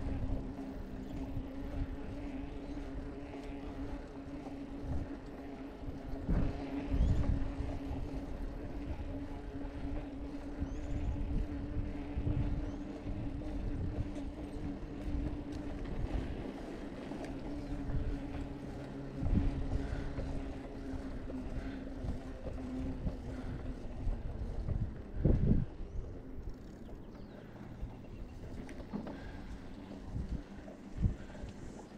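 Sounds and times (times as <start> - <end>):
bicycle rolling hum: 0.0 - 31.9
wind buffeting microphone: 0.0 - 31.9.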